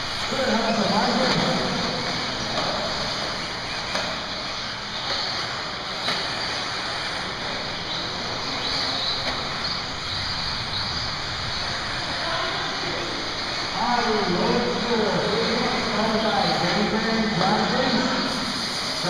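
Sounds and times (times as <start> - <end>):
high motor whines: 0.0 - 19.0
rc cars motors hissing: 0.0 - 19.0.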